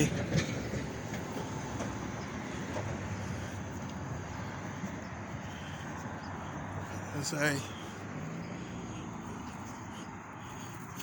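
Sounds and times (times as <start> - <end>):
road and wind rumble: 0.0 - 11.0.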